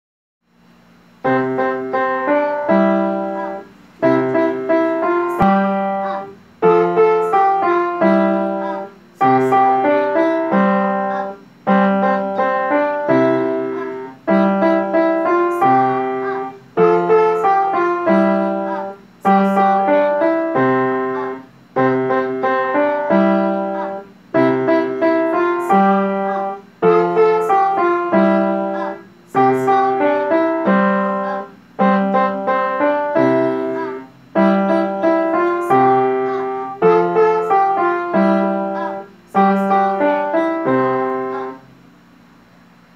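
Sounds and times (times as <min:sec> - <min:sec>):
child playing piano: 0:01.2 - 0:41.7.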